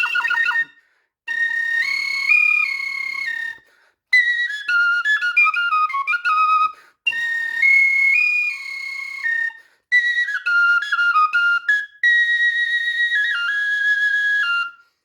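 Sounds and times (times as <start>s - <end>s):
high-pitched bird flute melody: 0.0s - 3.6s, 4.2s - 14.8s.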